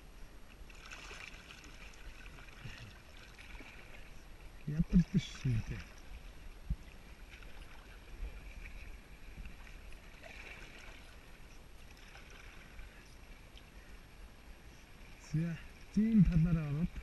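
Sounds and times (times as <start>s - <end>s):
water washing around hull: 0.3s - 14.0s.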